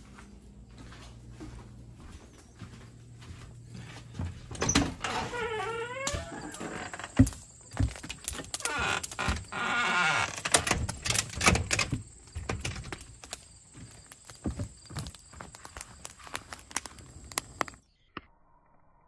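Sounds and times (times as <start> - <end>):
footsteps on wooden deck: 0.0 - 17.8.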